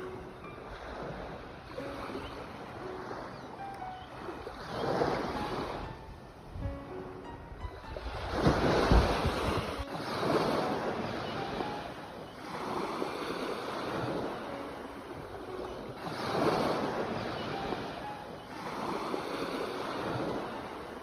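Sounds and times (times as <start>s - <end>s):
sea waves breaking: 0.0s - 21.0s.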